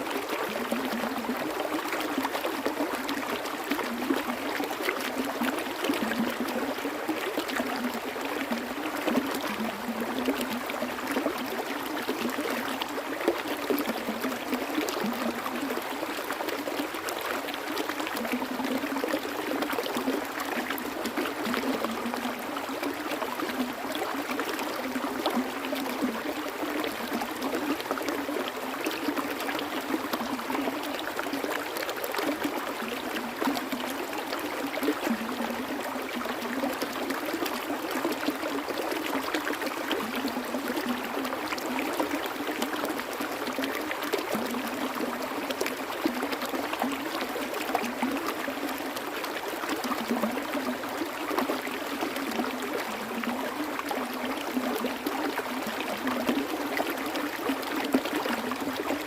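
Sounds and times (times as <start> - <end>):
water splashing and gurgling: 0.0 - 59.0.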